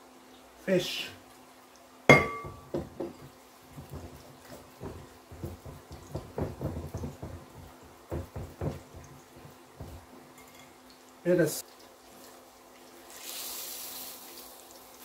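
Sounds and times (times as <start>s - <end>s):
oil sizzling: 0.9s - 15.0s.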